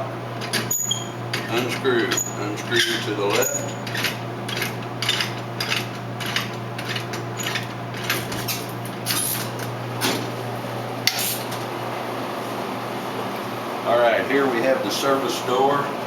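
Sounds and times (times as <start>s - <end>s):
machine humming: 0.0s - 12.9s.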